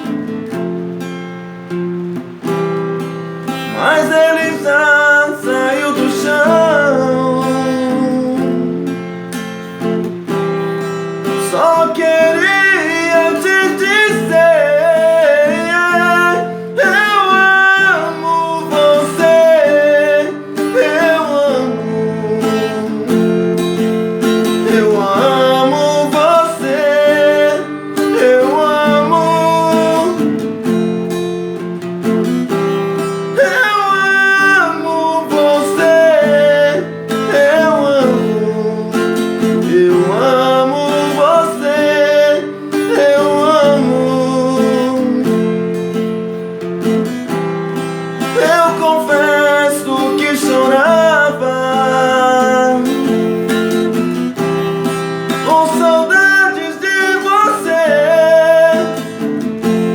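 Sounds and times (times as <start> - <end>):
acoustic guitar strumming: 0.0 - 59.9
person singing: 3.4 - 30.8, 32.7 - 46.6, 47.9 - 59.9.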